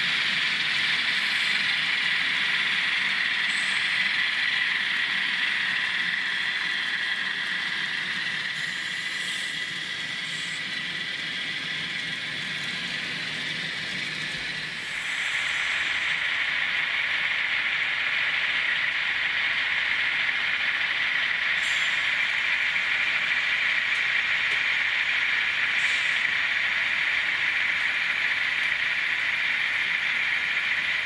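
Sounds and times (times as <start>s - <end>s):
model train running on track: 0.0s - 31.0s.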